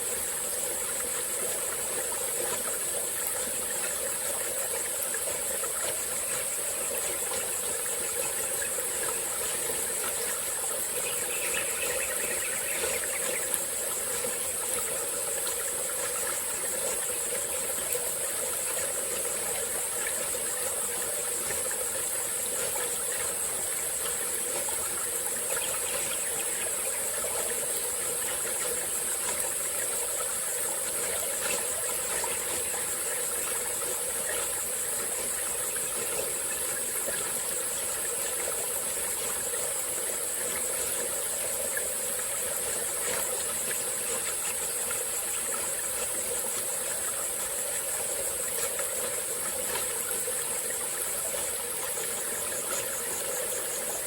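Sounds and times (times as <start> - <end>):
insect chorus: 0.0 - 54.0
stream flowing over rocks: 0.0 - 54.0.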